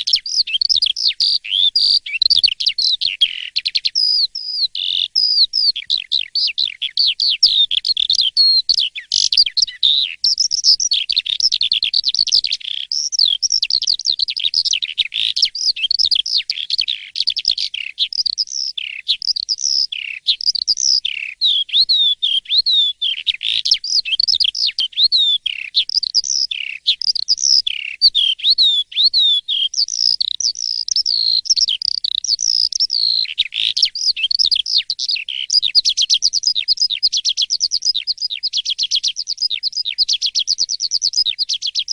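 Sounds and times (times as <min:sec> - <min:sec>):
starling singing: 0:00.0 - 0:41.9.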